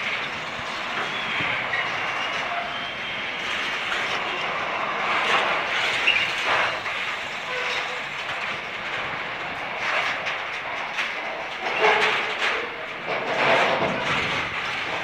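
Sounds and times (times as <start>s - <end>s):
train wheels rattling on rails: 0.0s - 15.0s.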